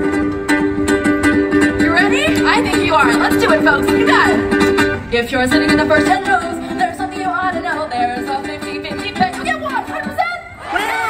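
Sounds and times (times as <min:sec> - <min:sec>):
held instrumental notes: 0:00.0 - 0:10.3.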